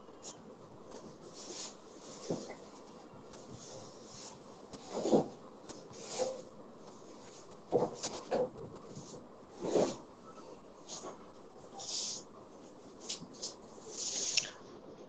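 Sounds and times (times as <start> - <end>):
faint steady hiss: 0.0 - 15.0
rustling and scraping: 0.2 - 14.5.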